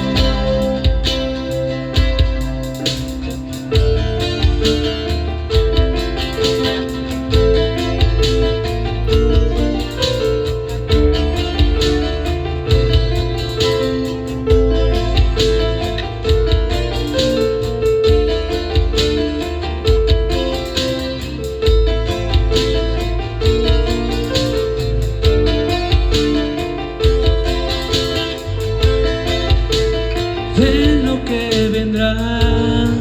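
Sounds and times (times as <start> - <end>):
bass line: 0.0 - 33.0
guitar chords: 0.0 - 33.0
keyboard chords: 0.0 - 33.0
steady beat: 0.0 - 33.0.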